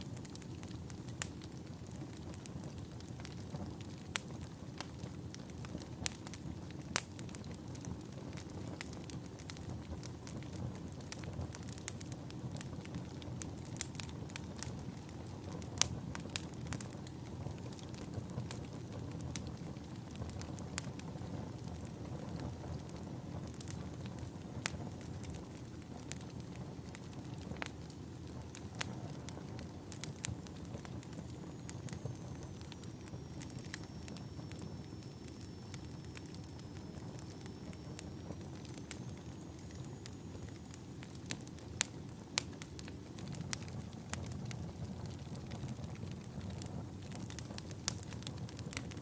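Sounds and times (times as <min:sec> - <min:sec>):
fire rumbling: 0:00.0 - 0:49.0
logs crackling and popping: 0:00.0 - 0:49.0.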